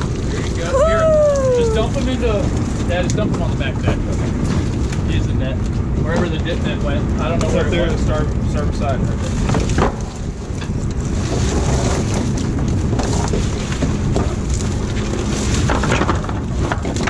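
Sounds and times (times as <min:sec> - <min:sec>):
boat and water rushing: 0:00.0 - 0:17.0
wind buffeting microphone: 0:00.0 - 0:17.0.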